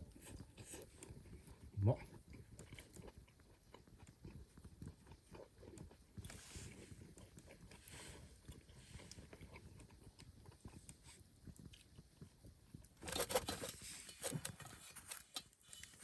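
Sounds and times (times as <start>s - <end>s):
person chewing crusty pizza: 0.0s - 16.0s.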